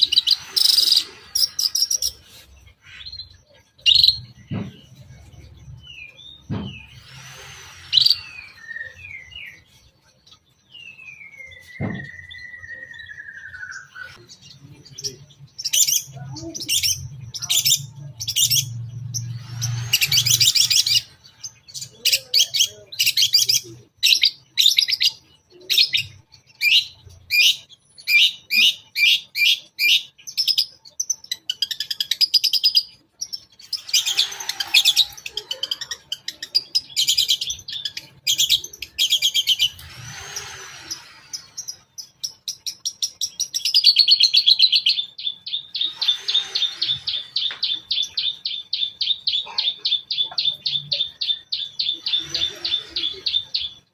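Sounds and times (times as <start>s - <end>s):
shrike singing: 0.0s - 30.0s, 32.9s - 53.9s.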